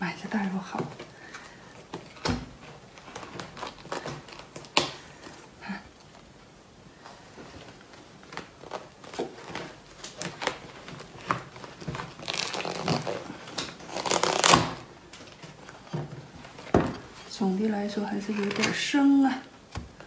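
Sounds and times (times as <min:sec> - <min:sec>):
crinkling and tearing of husk: 0:00.3 - 0:17.4, 0:18.1 - 0:20.0.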